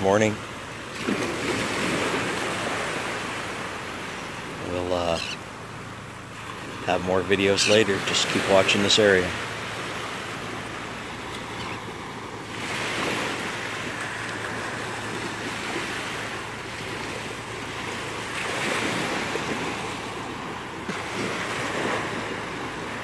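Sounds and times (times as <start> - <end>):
small waves breaking on sand: 0.0 - 23.0.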